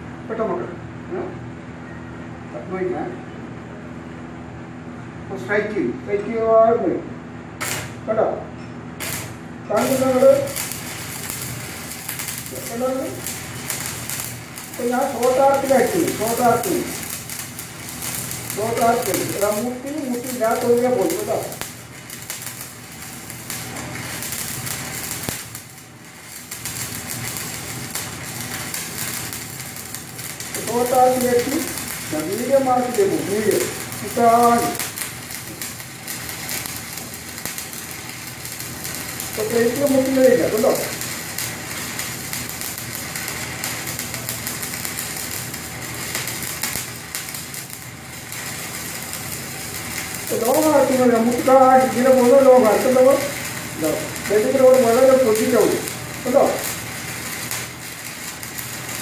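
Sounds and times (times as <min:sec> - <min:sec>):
low steady hum: 0:00.0 - 0:58.7
welding arc crackling: 0:07.6 - 0:08.2, 0:08.9 - 0:59.0.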